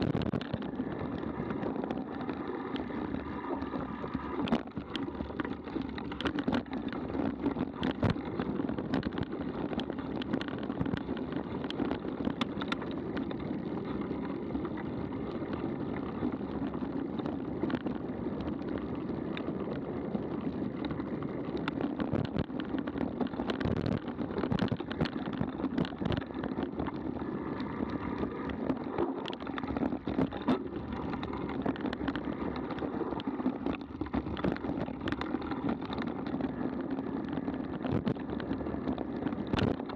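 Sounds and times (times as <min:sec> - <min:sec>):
bike knocking and rattling: 0:00.0 - 0:39.9
bike tyre and drivetrain rumble: 0:00.0 - 0:39.9.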